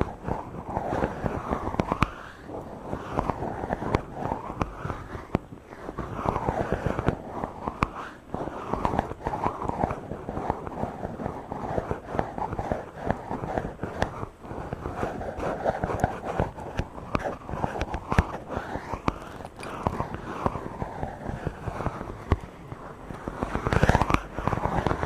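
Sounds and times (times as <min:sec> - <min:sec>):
fingers rubbing on microphone: 0:00.0 - 0:25.0.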